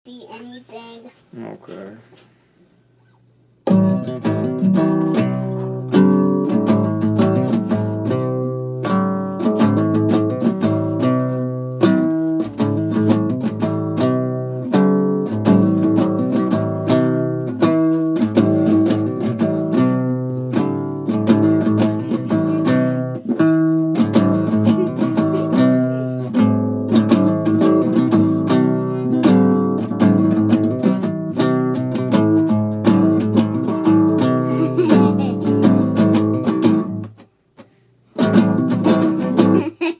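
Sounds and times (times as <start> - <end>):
acoustic guitar playing: 3.6 - 39.9.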